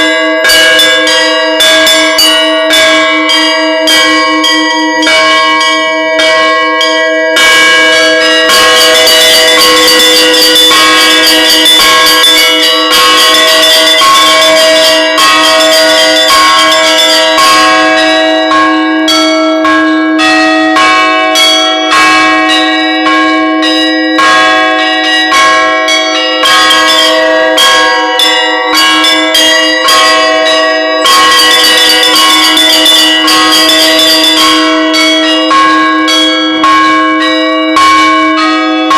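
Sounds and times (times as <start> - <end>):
bells ringing: 0.0 - 38.9.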